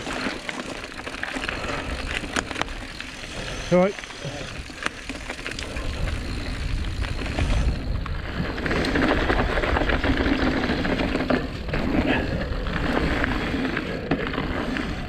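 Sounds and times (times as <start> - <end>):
bike tyres on dirt trail: 0.0 - 15.0
wind on microphone: 1.5 - 15.0.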